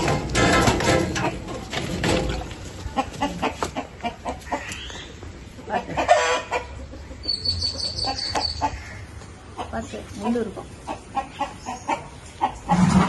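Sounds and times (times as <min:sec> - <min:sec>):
chicken clucking: 0:00.9 - 0:13.0.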